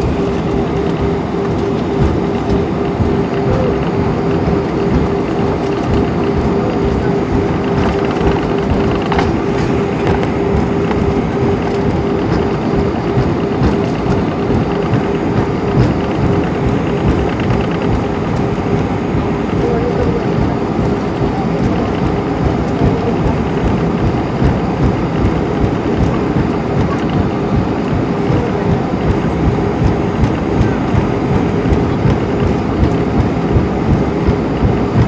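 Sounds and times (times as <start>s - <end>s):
airplane cabin engine rumble: 0.0s - 35.0s
mid-pitched hum: 0.0s - 35.0s.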